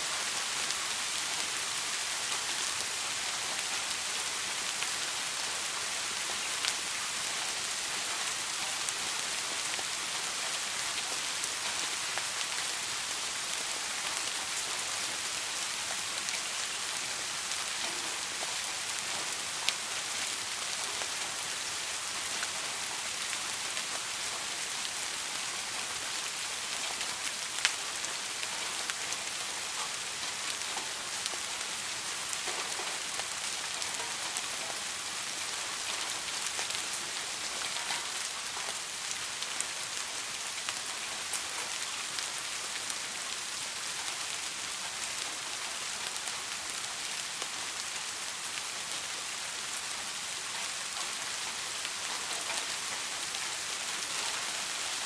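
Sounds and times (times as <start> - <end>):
louder single rain drops: 0.0 - 55.0
soft rain patter: 0.0 - 55.0.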